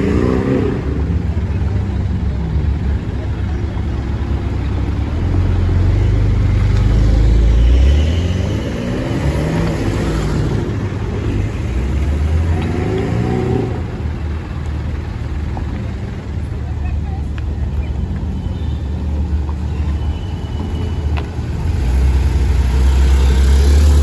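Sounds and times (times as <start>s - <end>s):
cars driving past revving: 0.0s - 16.4s, 20.6s - 24.0s.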